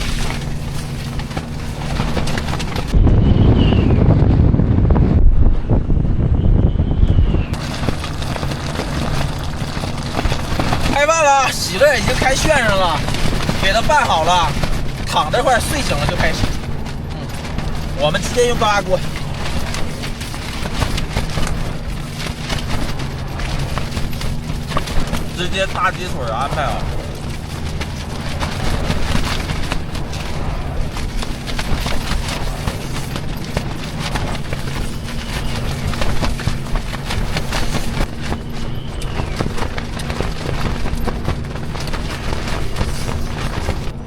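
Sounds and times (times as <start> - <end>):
gusty wind buffeting microphone: 0.0 - 44.0.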